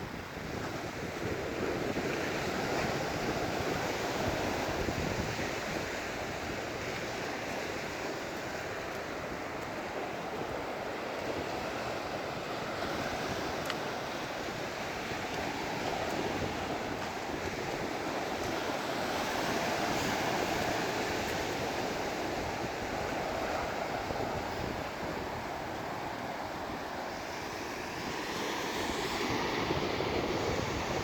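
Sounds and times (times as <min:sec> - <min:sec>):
waves breaking on beach: 0:00.0 - 0:31.0
wind buffeting microphone: 0:00.0 - 0:31.0.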